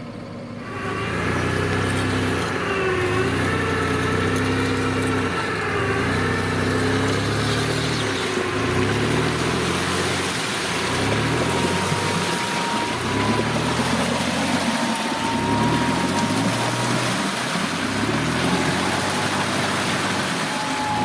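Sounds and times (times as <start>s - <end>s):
suv engine revving: 0.0s - 21.0s.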